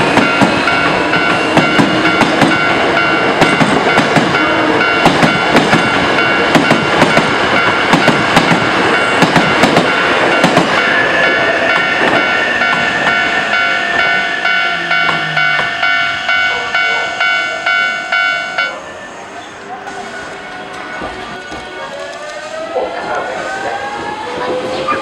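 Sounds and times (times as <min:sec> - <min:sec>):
train rumble: 0:00.0 - 0:25.0.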